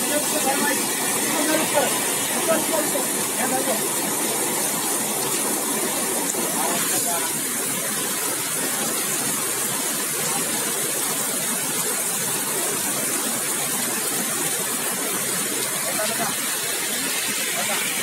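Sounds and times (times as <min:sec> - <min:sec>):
heavy rain on asphalt: 0:00.0 - 0:18.0.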